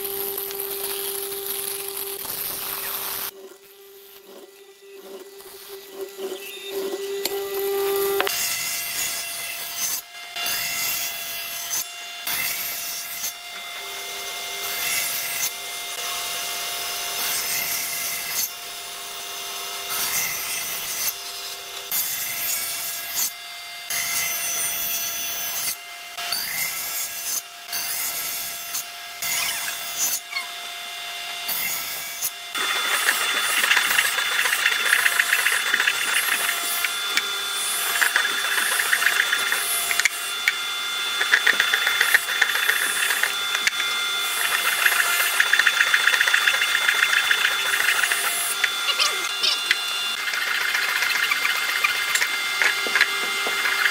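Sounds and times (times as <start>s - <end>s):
loud dense tool noise: 0.0s - 53.9s
sawing wood: 0.0s - 53.9s.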